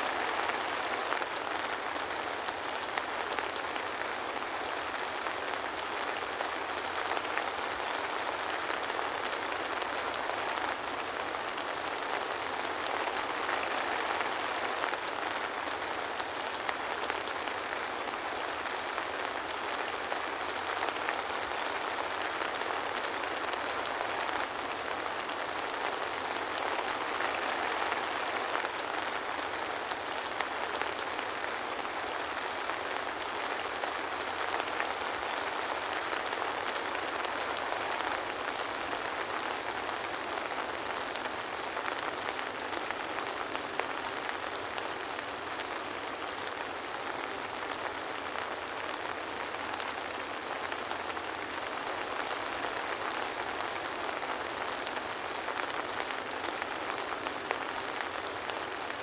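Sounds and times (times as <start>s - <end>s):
soft rain hissing: 0.0s - 59.0s.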